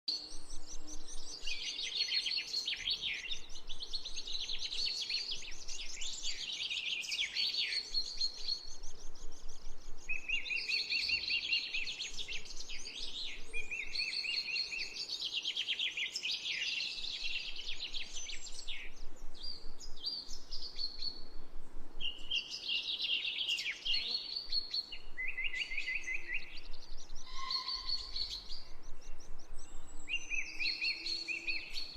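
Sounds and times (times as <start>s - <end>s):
faint background hiss: 0.1s - 31.9s
songbirds trilling and chirping: 0.1s - 31.9s.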